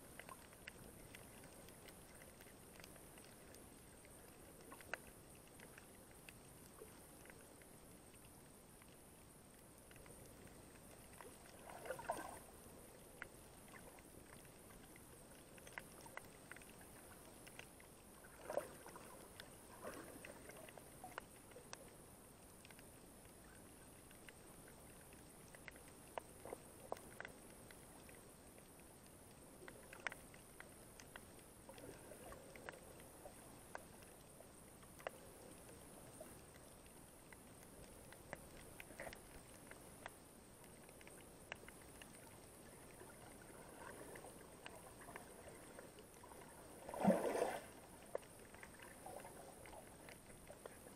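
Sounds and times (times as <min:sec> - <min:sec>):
low hiss: 0:00.0 - 0:50.9
water swish: 0:00.0 - 0:50.9.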